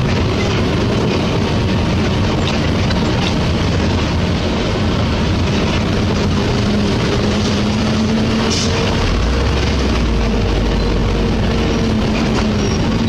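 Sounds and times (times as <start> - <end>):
truck passing close: 0.0 - 13.0
vehicle engine and tyre noise: 0.0 - 13.0.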